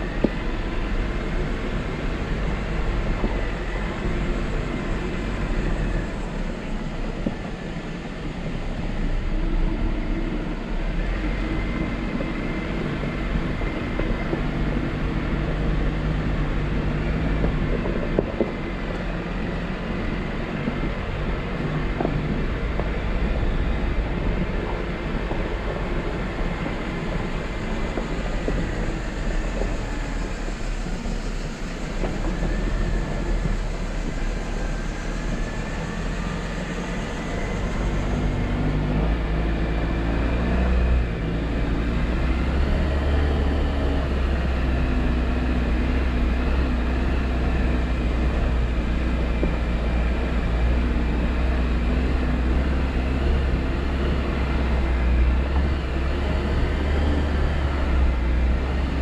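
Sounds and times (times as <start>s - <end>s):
engine rumble: 0.0s - 59.0s.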